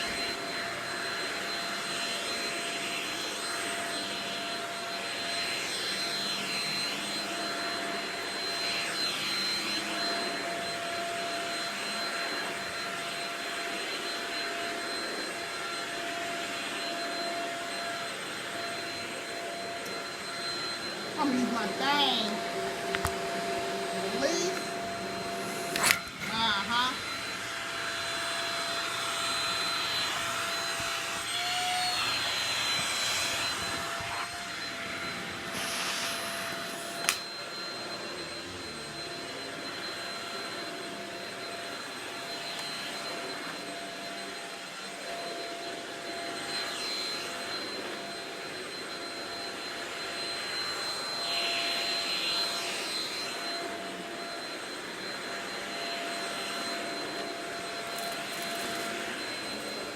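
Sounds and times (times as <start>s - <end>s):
vacuum cleaner motor whine: 0.0s - 59.9s.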